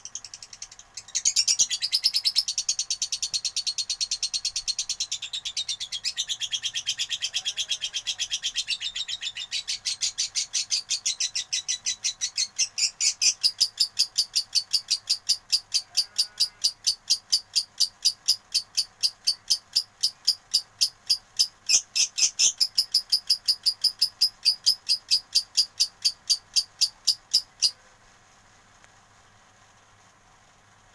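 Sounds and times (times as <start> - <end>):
lovebird rapid high chirps: 0.0 - 27.8.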